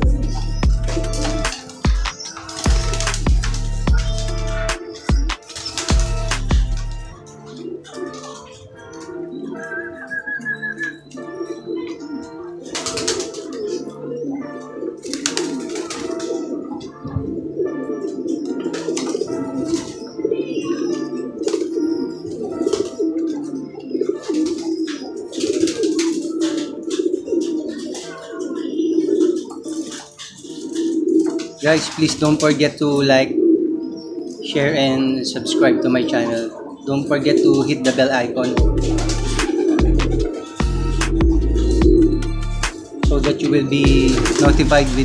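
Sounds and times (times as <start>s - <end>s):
background music: 0.0s - 45.0s
pigeons cooing: 0.0s - 45.0s
pigeons rustling: 0.0s - 45.0s.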